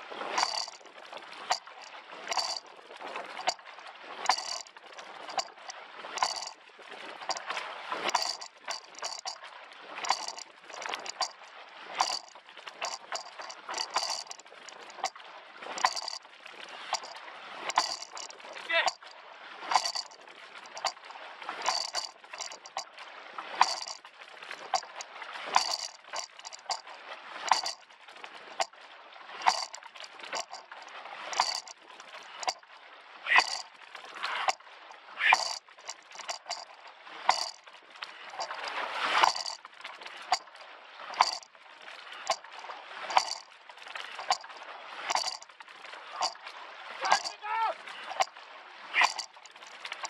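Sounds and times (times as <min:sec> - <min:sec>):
oars knocking and splashing: 0:00.0 - 0:50.0
water washing along hull: 0:00.0 - 0:50.0.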